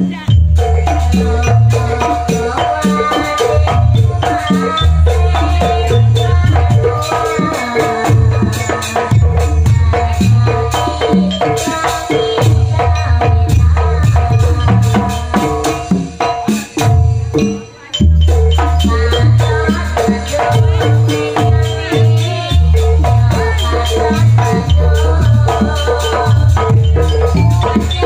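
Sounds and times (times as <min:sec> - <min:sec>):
amplified gamelan ensemble music: 0:00.0 - 0:28.0
hand drums: 0:00.0 - 0:28.0.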